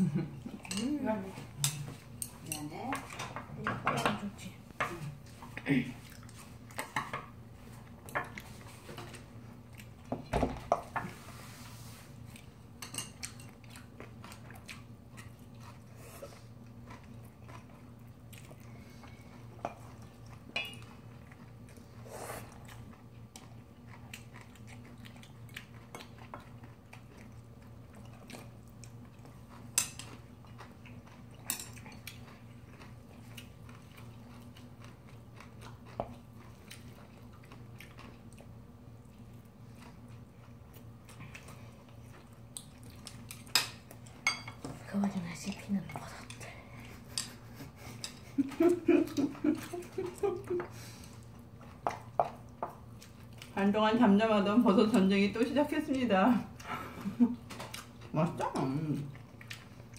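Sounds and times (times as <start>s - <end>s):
chewing: 4.8s - 11.2s, 12.0s - 53.6s, 56.5s - 59.9s.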